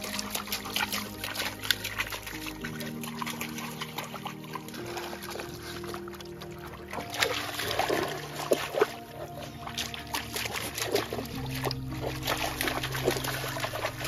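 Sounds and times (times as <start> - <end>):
background music with held notes: 0.0 - 14.0
dog splashing in water: 0.0 - 14.0.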